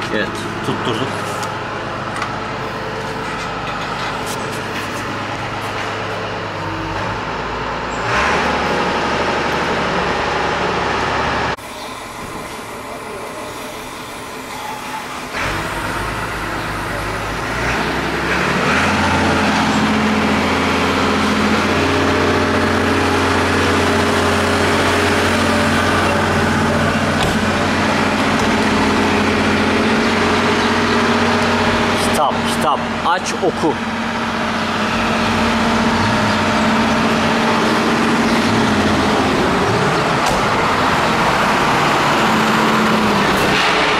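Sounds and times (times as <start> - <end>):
car engine with sport exhaust: 0.0 - 43.9.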